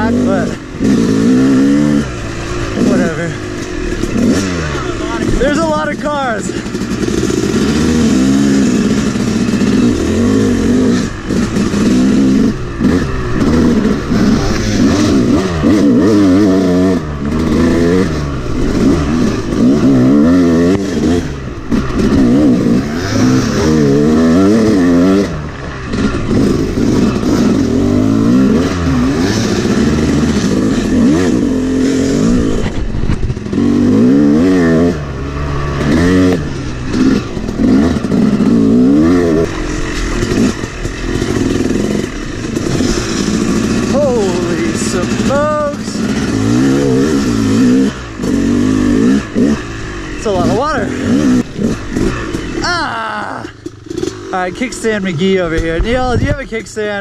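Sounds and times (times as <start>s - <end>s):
two-stroke dirt bike engine revving: 0.0s - 57.0s.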